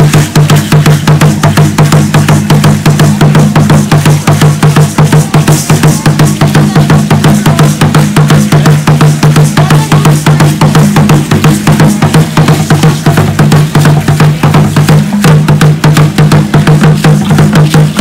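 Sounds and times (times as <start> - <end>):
fast steady drumming: 0.0 - 18.0.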